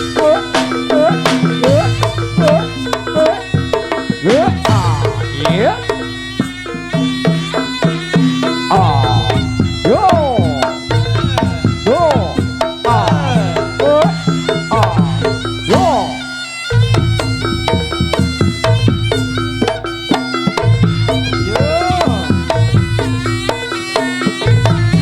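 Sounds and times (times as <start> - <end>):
hand drums: 0.0 - 25.0
shawm melody: 0.0 - 25.0.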